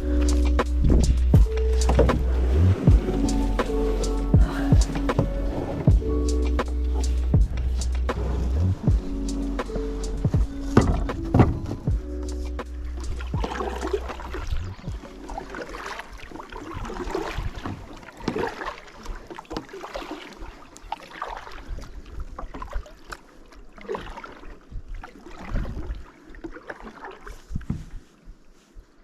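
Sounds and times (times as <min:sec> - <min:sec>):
paddle splashing in water: 0:00.0 - 0:28.6.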